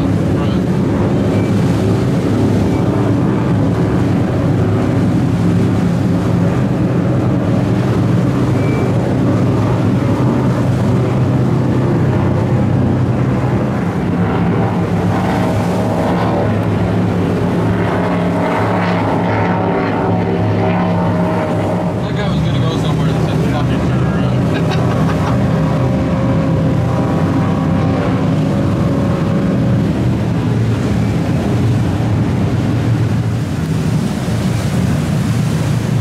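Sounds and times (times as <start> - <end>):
helicopter flying low: 0.0 - 36.0
motorboat engines droning: 0.0 - 36.0.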